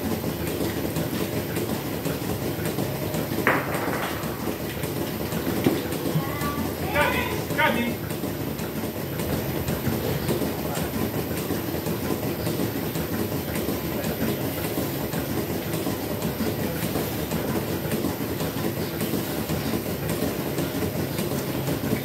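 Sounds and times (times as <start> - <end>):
milking machinery rumbling: 0.0 - 22.0.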